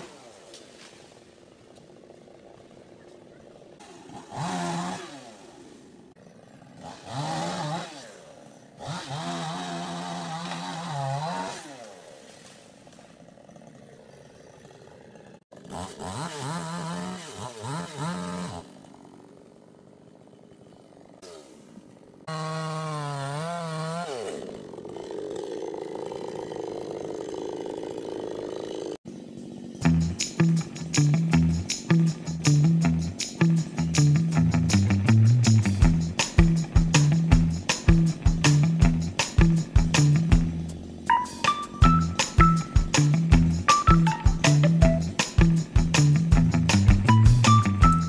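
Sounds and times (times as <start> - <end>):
chainsaw revving and idling: 0.0 - 0.5, 1.4 - 41.1, 41.9 - 48.0.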